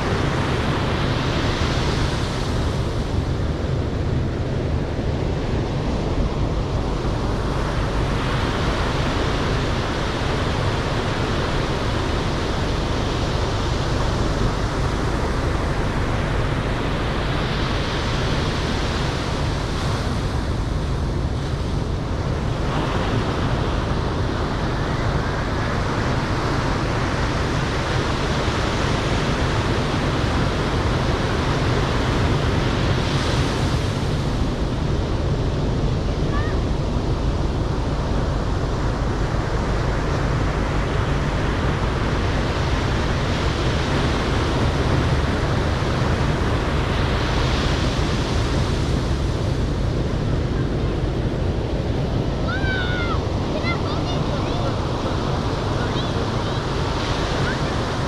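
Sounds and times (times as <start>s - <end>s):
surf washing up beach: 0.0s - 58.0s
wind rumbling on microphone: 0.0s - 58.0s.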